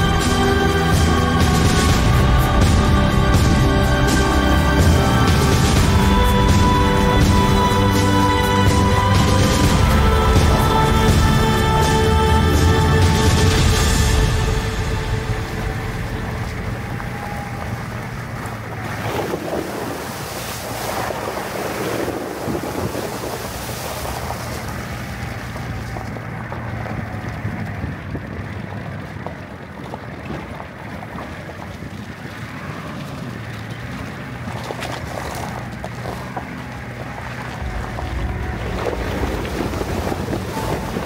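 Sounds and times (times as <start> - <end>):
low steady hum: 0.0 - 29.9, 30.6 - 41.0
stream rushing over pebbles: 0.0 - 41.0
wind buffeting microphone: 0.0 - 41.0.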